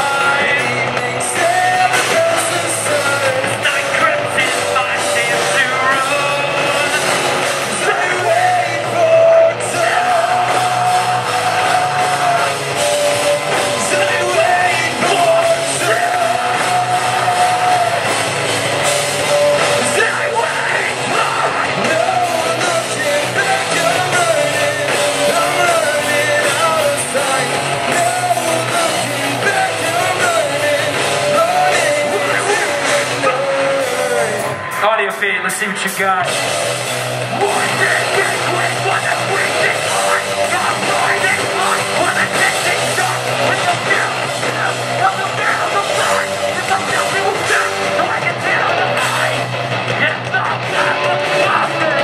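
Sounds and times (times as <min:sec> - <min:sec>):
shouted vocals: 0:00.0 - 0:36.4, 0:37.2 - 0:52.0
live rock band: 0:00.0 - 0:52.0
sung lead melody: 0:00.0 - 0:52.0.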